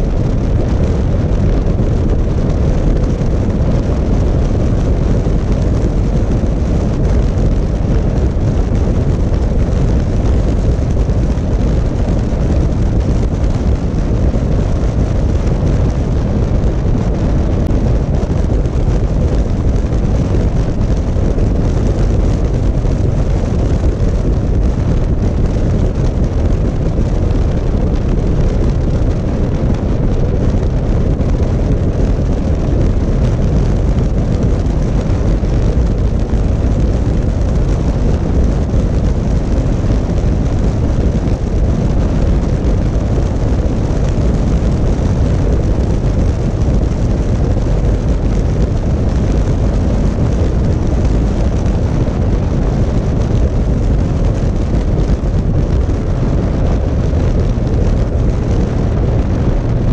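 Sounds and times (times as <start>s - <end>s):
wind and road noise on microphone: 0.0s - 59.9s.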